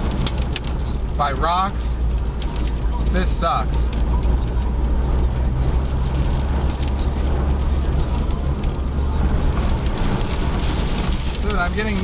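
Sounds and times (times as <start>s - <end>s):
wind and road drone: 0.0s - 12.0s.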